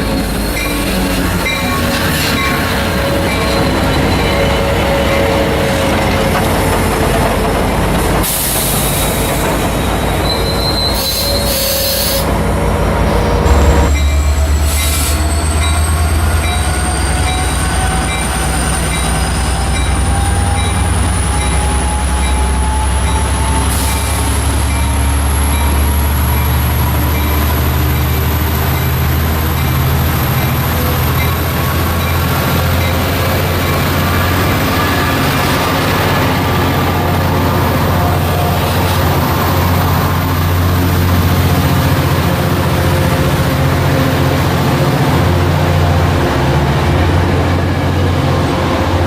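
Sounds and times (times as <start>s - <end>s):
train rumbling past: 0.0s - 49.0s.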